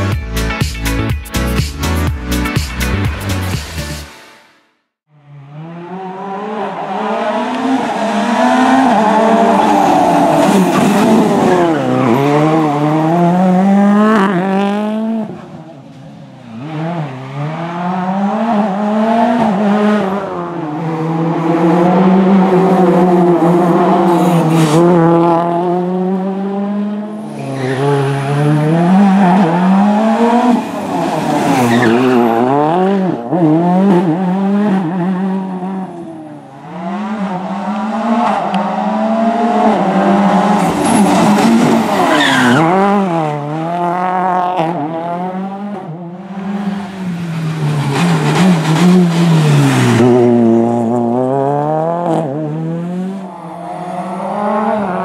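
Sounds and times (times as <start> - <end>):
rally car engine revving: 5.1 - 55.0.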